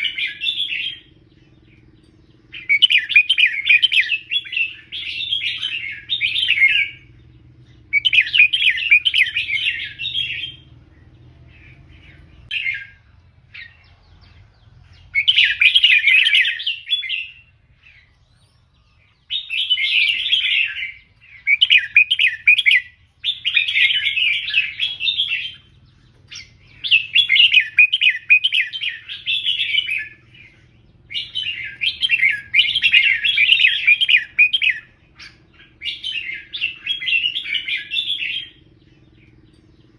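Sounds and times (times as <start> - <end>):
bird warbled chattering: 0.0 - 39.9.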